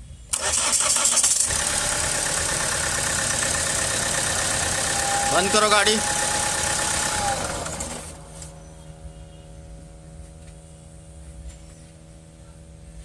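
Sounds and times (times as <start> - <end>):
car engine switching off: 0.3 - 12.4.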